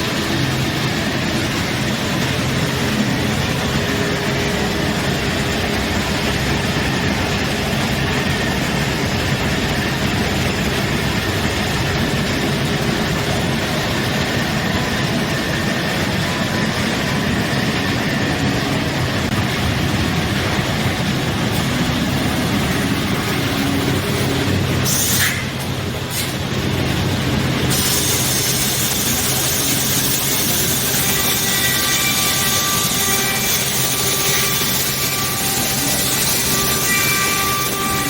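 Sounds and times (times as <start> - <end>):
machining center running: 0.0 - 38.0.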